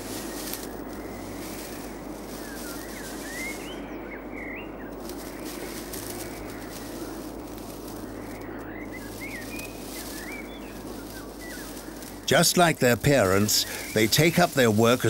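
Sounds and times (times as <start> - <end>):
steady background noise: 0.0 - 15.0
young beavers squeaking: 0.0 - 15.0.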